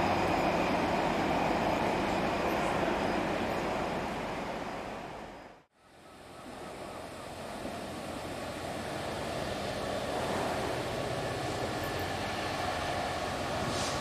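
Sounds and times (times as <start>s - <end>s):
diesel locomotive approaching: 0.0s - 14.0s.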